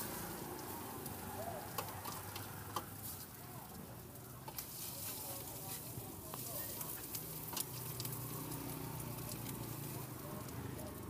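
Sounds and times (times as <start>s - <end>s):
low sizzle from hot pan: 0.0s - 11.0s.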